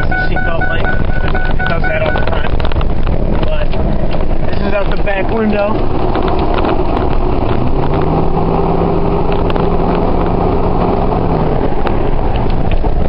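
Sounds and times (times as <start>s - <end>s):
truck exhaust drone: 0.0s - 4.6s, 5.7s - 13.0s.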